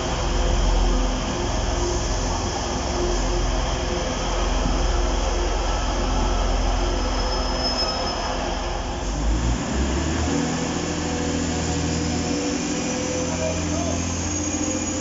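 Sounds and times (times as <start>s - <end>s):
diesel railcar engine rumbling: 0.0s - 15.0s
multi-toned train engine hum: 0.0s - 15.0s.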